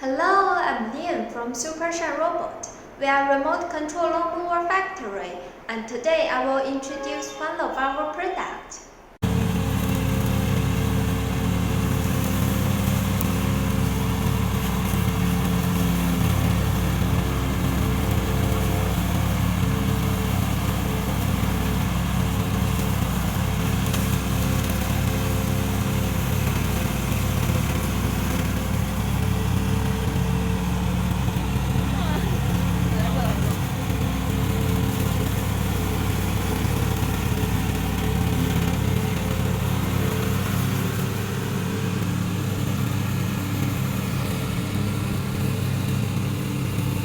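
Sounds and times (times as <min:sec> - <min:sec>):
lawn mower engine running: 0:09.2 - 0:47.0.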